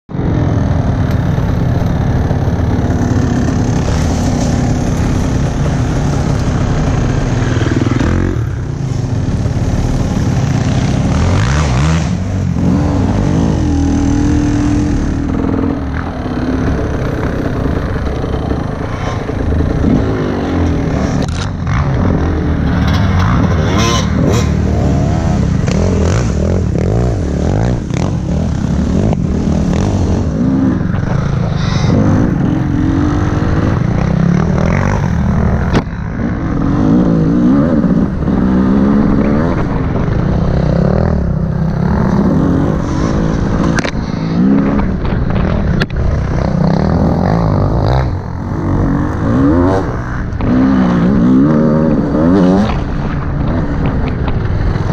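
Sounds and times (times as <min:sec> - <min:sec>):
dirt bike engine revving: 0:00.2 - 0:54.9.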